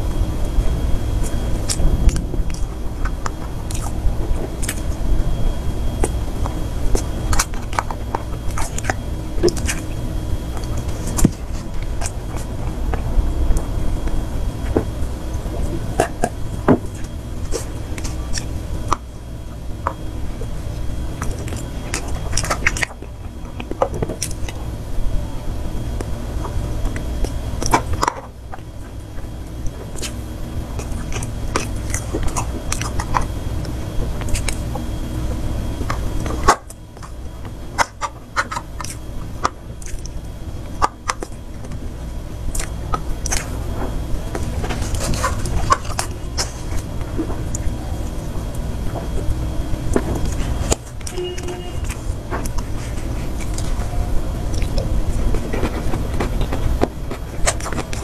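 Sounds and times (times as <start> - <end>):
steady low hum: 0.0 - 58.0
chewing and mouth sounds: 0.1 - 58.0.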